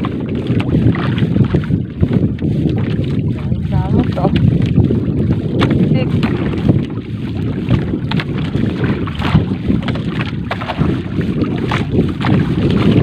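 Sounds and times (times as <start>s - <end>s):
water splashes: 0.0s - 13.0s
wind buffeting microphone: 0.0s - 13.0s.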